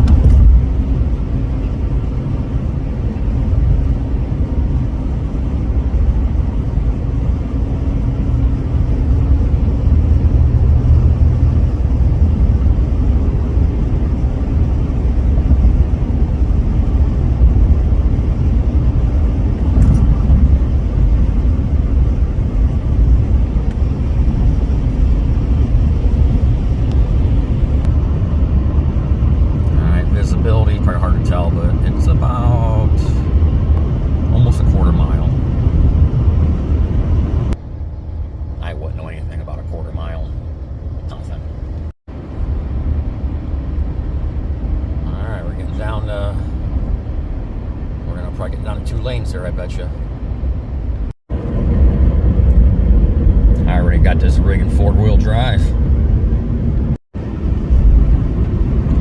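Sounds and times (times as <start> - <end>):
engine drone: 0.0 - 59.0.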